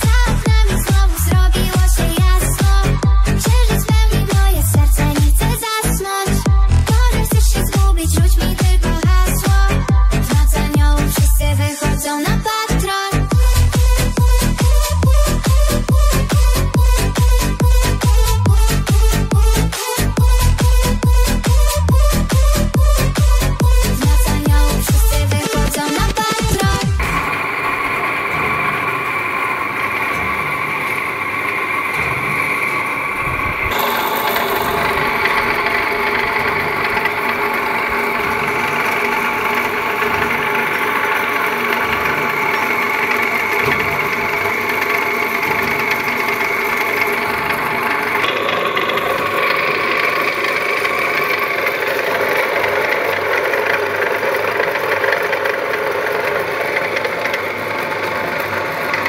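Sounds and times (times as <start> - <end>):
potato steamer machinery whining: 0.0 - 59.0.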